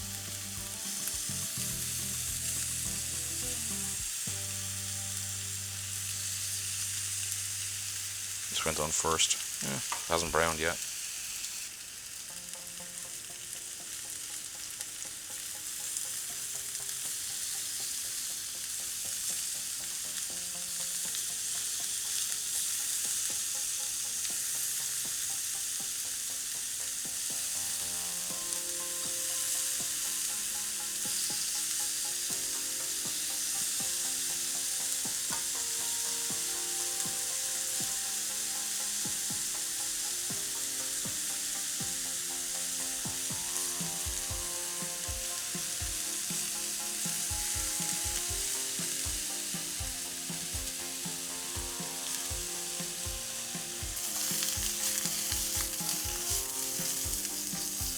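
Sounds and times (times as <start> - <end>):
chicken sizzling in a frying pan: 0.0 - 57.9.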